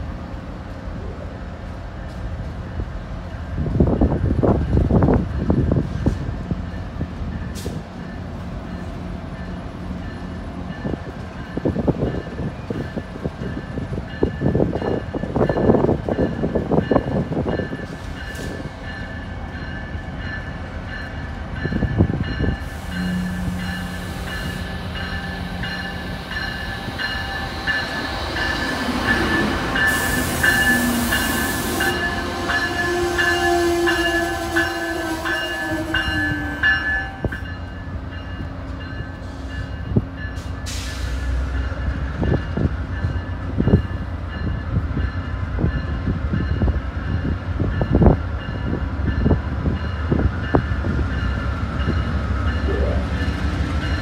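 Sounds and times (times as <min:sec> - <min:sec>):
electric locomotive whine: 0:00.0 - 0:54.0
wheels rumbling on rails: 0:00.0 - 0:54.0.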